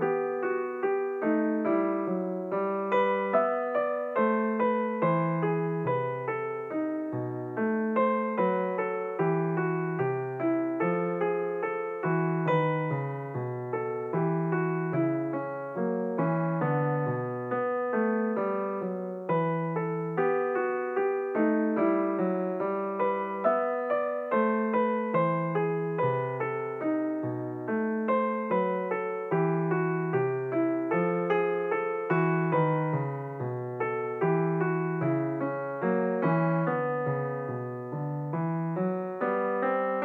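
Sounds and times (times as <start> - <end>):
piano music: 0.0 - 40.0.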